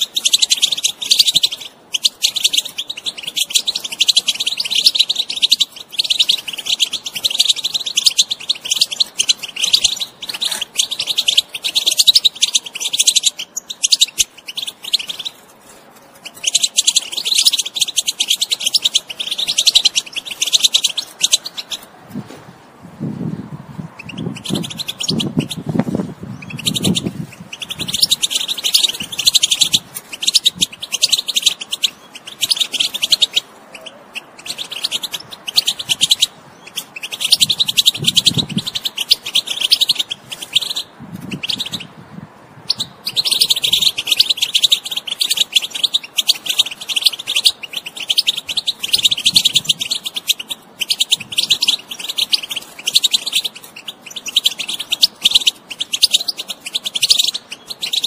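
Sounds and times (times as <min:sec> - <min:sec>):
goldfinch twittering and trilling: 0:00.0 - 0:15.5, 0:16.2 - 0:21.9, 0:23.9 - 0:42.0, 0:42.6 - 0:58.0.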